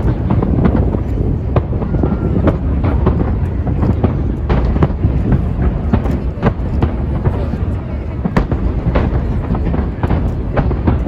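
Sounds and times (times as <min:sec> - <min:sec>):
fireworks booming: 0:00.0 - 0:11.0
fireworks sharp cracks: 0:00.0 - 0:11.0.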